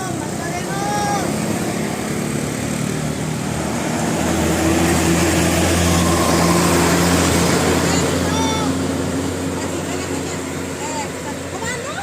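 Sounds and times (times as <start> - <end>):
bus engine droning: 0.0 - 12.0
road noise: 0.0 - 12.0.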